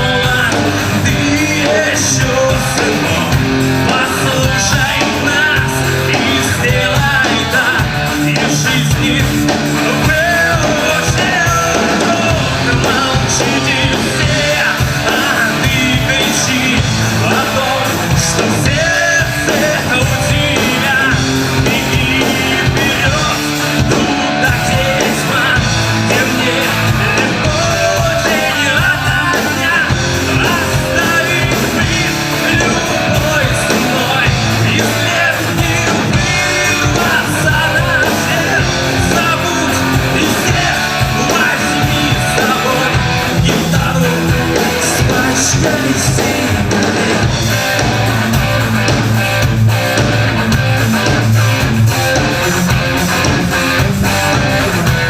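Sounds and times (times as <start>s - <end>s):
person singing: 0.0s - 48.6s
rock band playing live: 0.0s - 55.0s.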